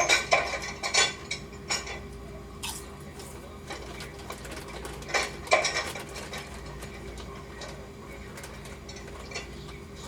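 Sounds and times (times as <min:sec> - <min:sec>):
dishes and cutlery clattering: 0:00.0 - 0:02.8, 0:03.6 - 0:10.0.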